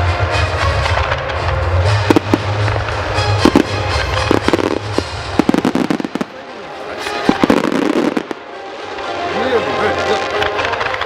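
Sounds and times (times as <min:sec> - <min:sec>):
fireworks bangs: 0:00.2 - 0:11.0.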